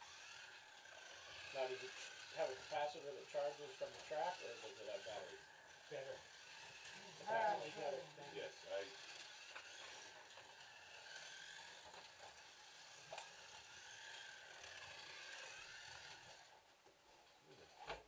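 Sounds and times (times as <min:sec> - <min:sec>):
slot cars whining: 0:00.0 - 0:16.6.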